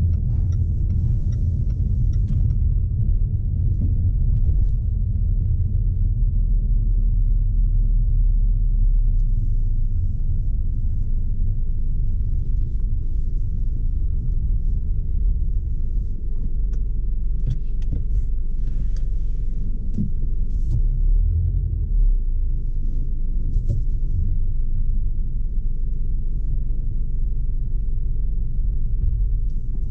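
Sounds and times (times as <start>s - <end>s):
car engine rumbling: 0.0s - 29.9s.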